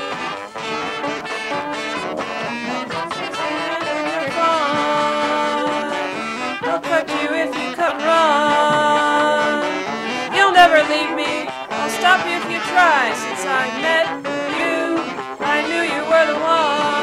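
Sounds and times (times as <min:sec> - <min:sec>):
brass marching band playing: 0:00.0 - 0:17.0.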